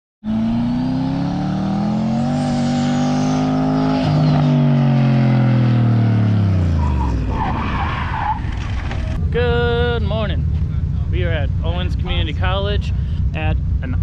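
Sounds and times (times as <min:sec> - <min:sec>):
car engine revving: 0:00.2 - 0:14.0.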